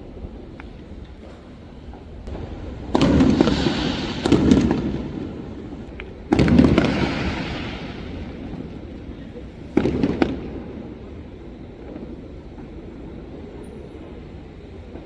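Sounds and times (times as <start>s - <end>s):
crackling and hiss: 0.0s - 15.0s
fireworks exploding: 0.1s - 15.0s.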